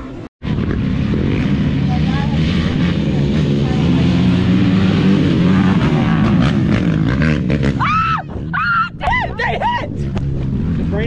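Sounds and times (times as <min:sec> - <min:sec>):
quad engines at full throttle: 0:00.0 - 0:11.0.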